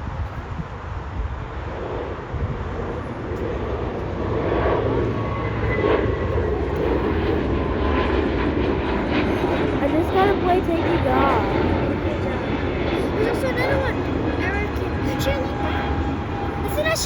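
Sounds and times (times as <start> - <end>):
jet engines roaring: 0.0 - 17.0
faint high whine: 0.5 - 17.0.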